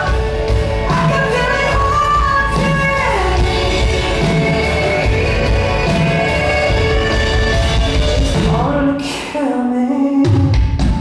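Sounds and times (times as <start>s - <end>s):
live rock band playing: 0.0s - 9.3s, 10.2s - 11.0s.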